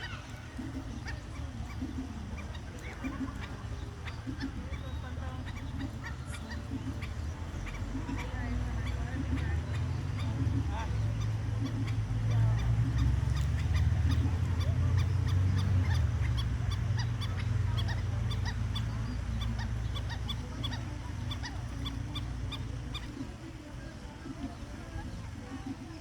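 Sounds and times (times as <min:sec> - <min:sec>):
birds yipping calls: 0:00.0 - 0:26.0
low steady rumble: 0:00.0 - 0:26.0.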